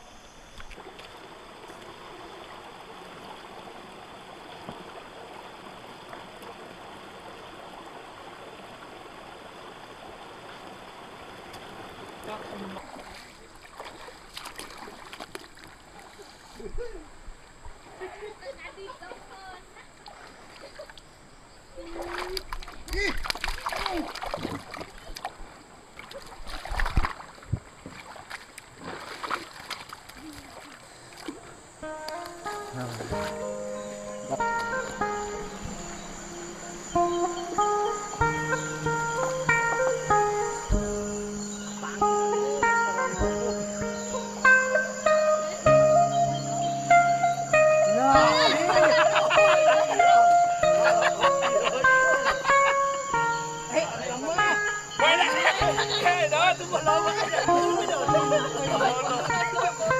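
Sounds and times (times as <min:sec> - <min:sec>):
river water rushing: 0:00.0 - 0:16.5, 0:22.0 - 0:59.9
faint ticks and splashes: 0:00.0 - 0:59.9.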